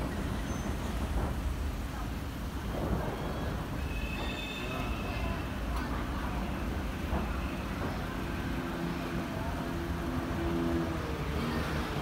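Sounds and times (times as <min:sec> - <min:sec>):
outdoor crowd noise: 0:00.0 - 0:12.0
faint distant voices: 0:01.7 - 0:12.0.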